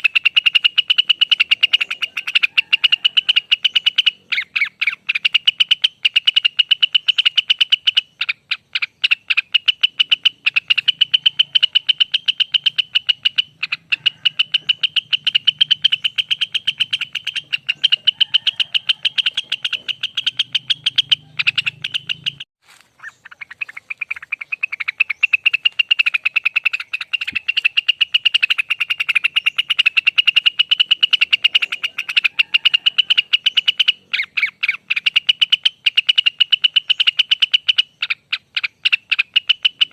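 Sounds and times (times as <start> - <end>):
songbird rapid trill: 0.0 - 39.9.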